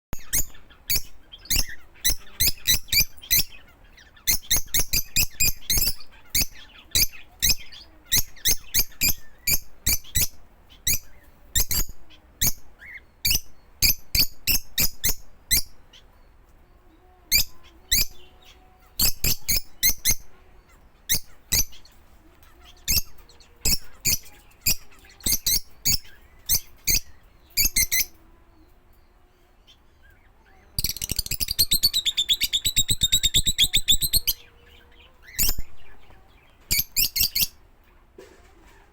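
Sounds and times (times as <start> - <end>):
small bird chirping: 0.1 - 38.1.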